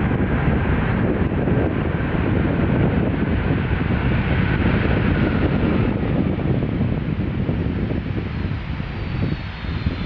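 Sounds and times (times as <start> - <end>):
faint jet engine whine: 0.0 - 10.0
jet engines deep rushing: 0.0 - 10.0.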